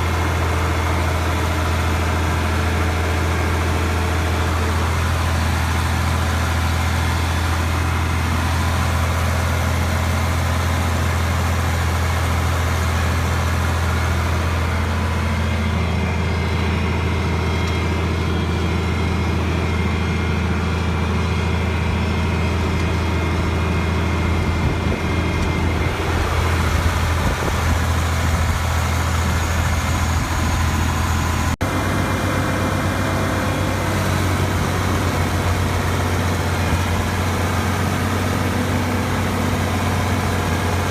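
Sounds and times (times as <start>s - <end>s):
loud low motor drone: 0.0s - 40.9s.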